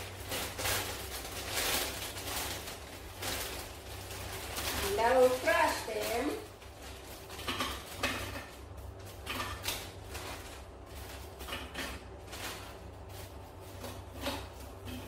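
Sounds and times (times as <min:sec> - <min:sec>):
low steady hum: 0:00.0 - 0:15.0
plastic wrapper crinkling: 0:00.0 - 0:15.0.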